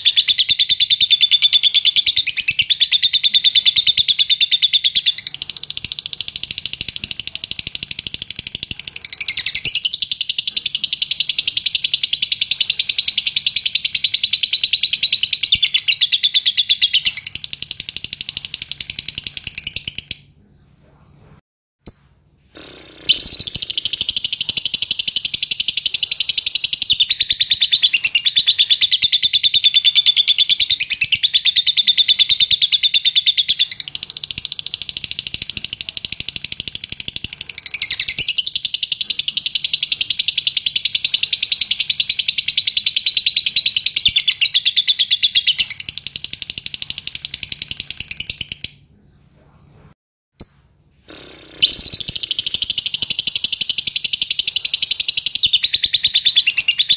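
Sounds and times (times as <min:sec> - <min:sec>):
lovebird chattering trill: 0:00.0 - 0:20.2, 0:21.9 - 0:48.8, 0:50.4 - 0:56.9.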